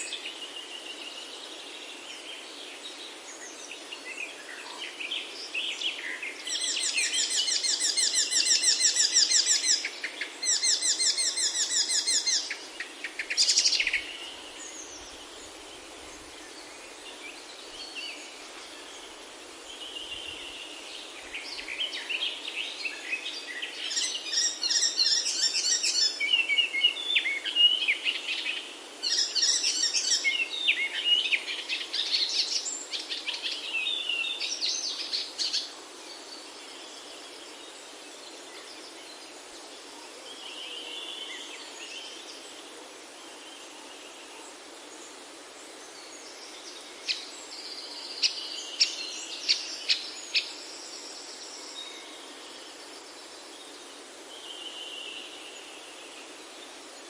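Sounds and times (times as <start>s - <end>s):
background hiss: 0.0s - 57.0s
songbirds chirping and trilling: 0.0s - 57.0s.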